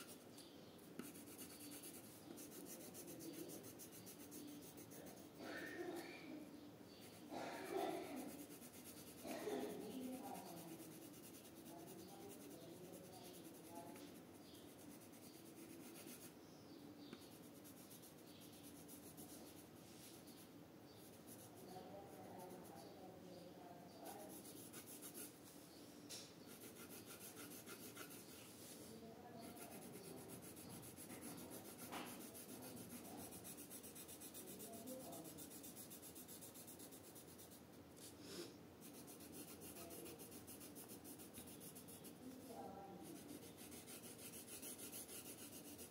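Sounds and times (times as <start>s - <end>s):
pencil scratching on paper: 0.9s - 6.0s, 6.9s - 16.4s, 17.2s - 22.8s, 24.0s - 25.5s, 26.4s - 38.2s, 38.8s - 45.9s.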